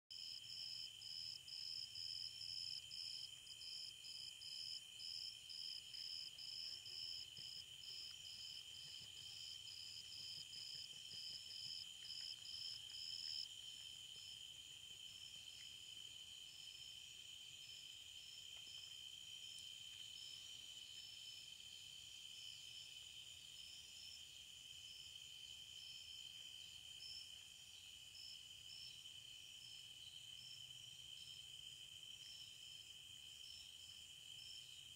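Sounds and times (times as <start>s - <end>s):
insect chirping: 0.2s - 34.9s.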